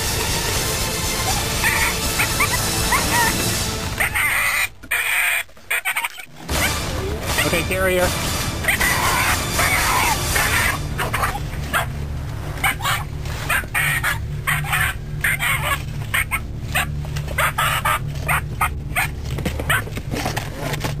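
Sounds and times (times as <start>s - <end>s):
dog barking and yelping: 1.2s - 7.5s, 8.6s - 12.0s, 12.6s - 20.0s.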